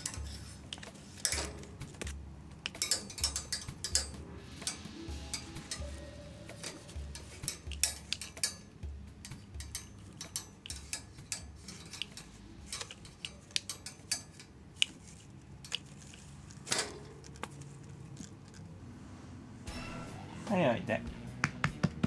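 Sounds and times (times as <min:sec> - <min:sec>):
wand rattling against cage bars: 0:00.0 - 0:18.7.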